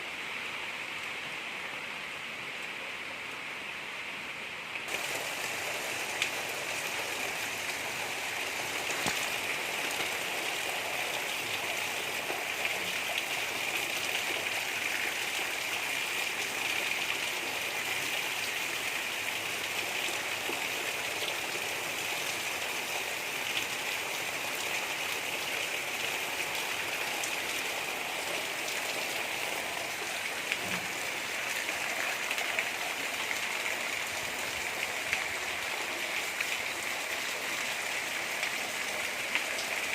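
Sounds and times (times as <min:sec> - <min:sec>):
gentle rainfall: 0:00.0 - 0:39.9.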